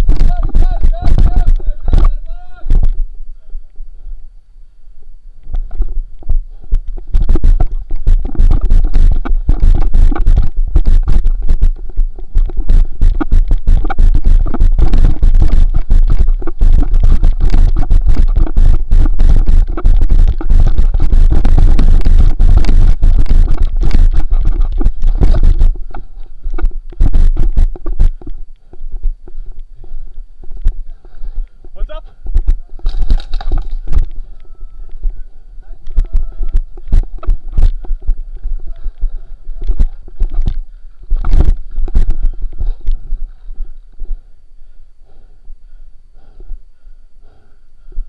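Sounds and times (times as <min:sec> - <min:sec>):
wind rumbling on microphone: 0:00.0 - 0:48.0.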